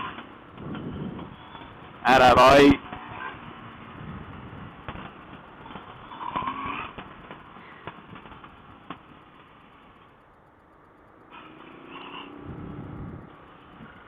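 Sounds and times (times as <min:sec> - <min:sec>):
muffled motorcycle engine: 0:00.0 - 0:14.0
wind: 0:00.0 - 0:14.0.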